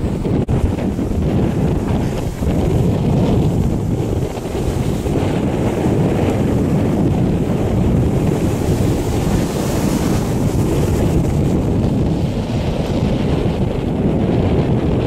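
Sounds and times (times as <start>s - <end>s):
waves rushing: 0.0s - 15.0s
wind buffeting microphone: 0.0s - 15.0s.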